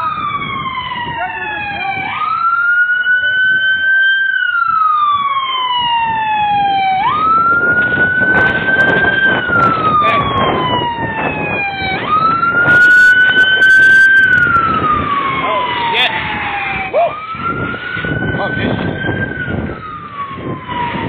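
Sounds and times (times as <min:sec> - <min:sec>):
fire truck siren wailing: 0:00.0 - 0:21.0
truck engine and tyres rumbling: 0:00.0 - 0:21.0.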